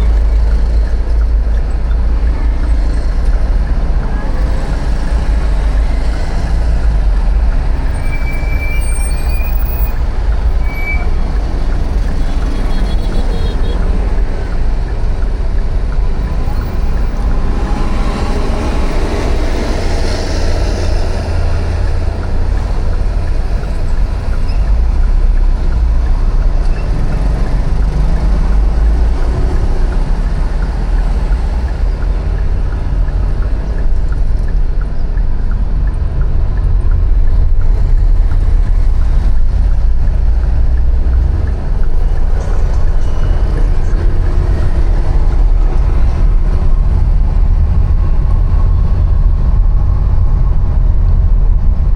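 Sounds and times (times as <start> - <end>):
street traffic rumble: 0.0 - 51.9.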